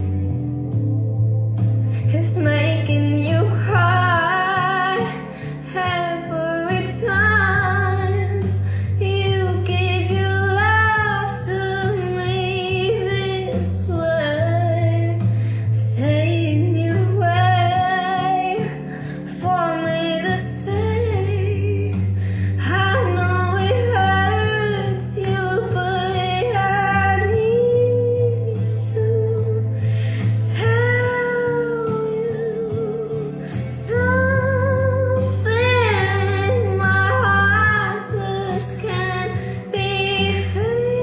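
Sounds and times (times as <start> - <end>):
pulsing bass backing track: 0.0 - 41.0
woman singing pop song: 1.6 - 41.0.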